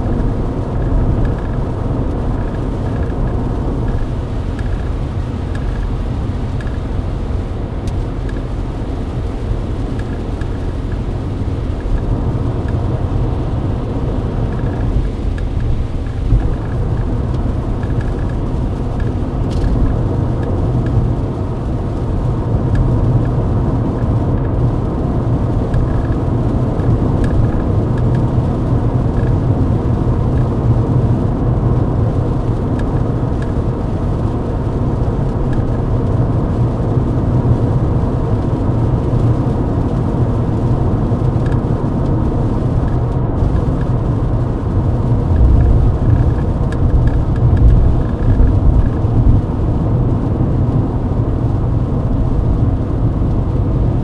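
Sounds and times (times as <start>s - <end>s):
car cabin drone at highway speed: 0.0s - 54.0s
engine and tyre rumble: 0.0s - 54.0s.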